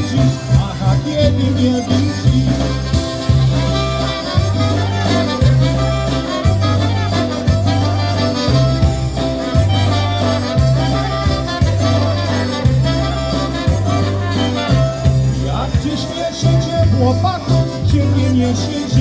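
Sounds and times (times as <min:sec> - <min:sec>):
brass horns: 0:00.0 - 0:19.0
polka band playing: 0:00.0 - 0:19.0.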